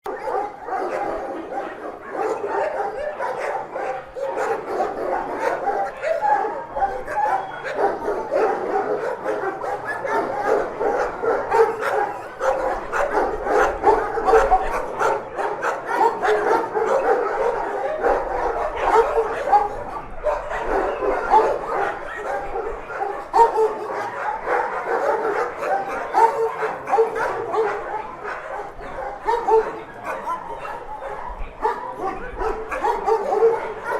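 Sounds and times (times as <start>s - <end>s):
dogs barking and whining: 0.0s - 33.9s.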